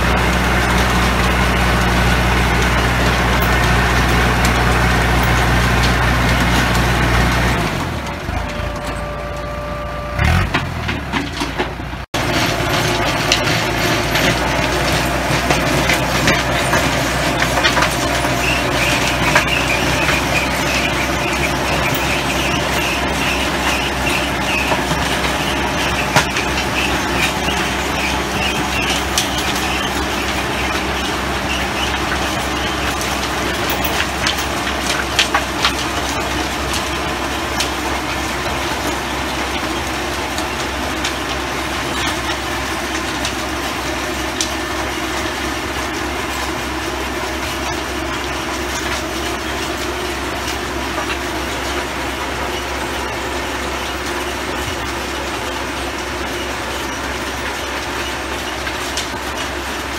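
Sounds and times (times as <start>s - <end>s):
rotary tiller churning soil: 0.0s - 59.9s
tractor diesel engine running: 0.0s - 59.9s.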